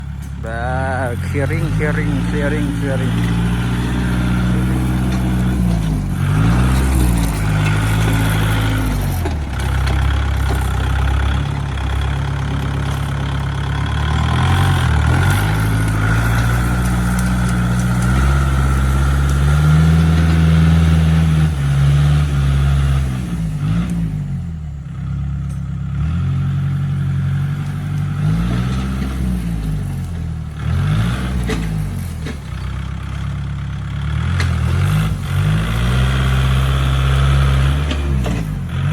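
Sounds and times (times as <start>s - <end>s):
tractor engine running hard: 0.0s - 38.9s.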